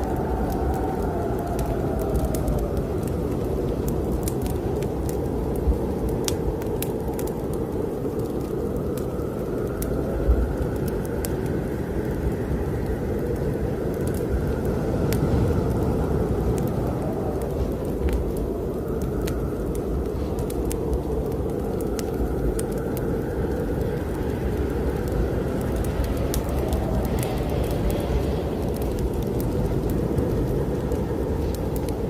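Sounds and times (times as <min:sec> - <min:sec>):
howling snowstorm wind: 0:00.0 - 0:32.0
wood fire crackling: 0:00.0 - 0:32.0.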